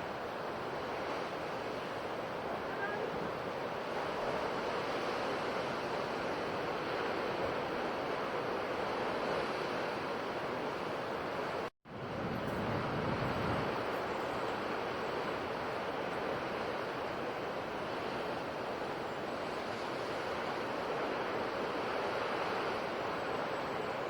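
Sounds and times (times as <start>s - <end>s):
ocean surf washing on shore: 0.0s - 24.0s.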